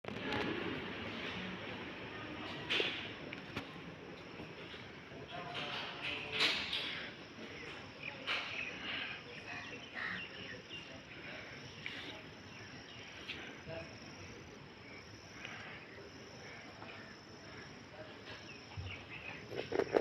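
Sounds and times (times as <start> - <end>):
insect drone: 0.1 - 20.0.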